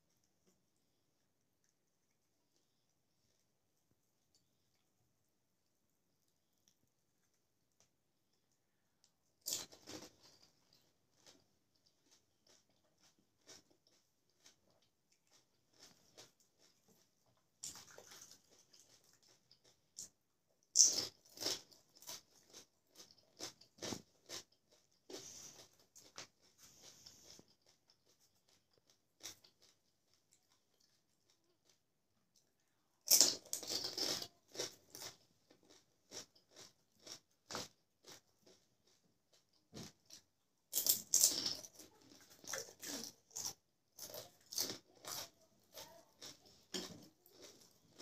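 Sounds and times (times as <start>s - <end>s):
crisp shells being chewed: 6.6s - 32.5s, 33.1s - 48.0s.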